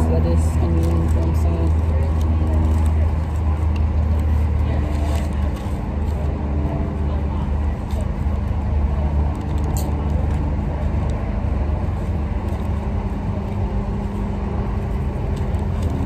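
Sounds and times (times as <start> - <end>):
constant hum: 0.0 - 16.0
road traffic rumble: 0.0 - 16.0.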